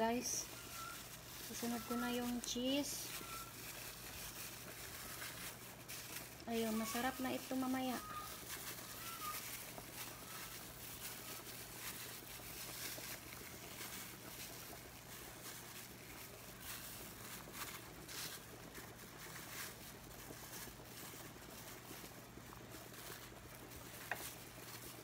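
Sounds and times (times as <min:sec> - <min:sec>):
plastic glove crinkling: 0:00.0 - 0:25.0
steady hiss and low hum: 0:00.0 - 0:25.0.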